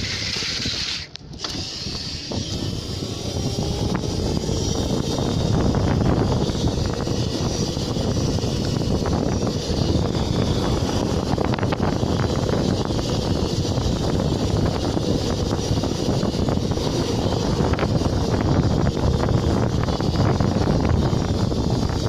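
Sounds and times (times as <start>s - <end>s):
motorcycle running: 0.0s - 22.0s
road noise: 0.0s - 22.0s
wind noise on microphone: 0.0s - 22.0s.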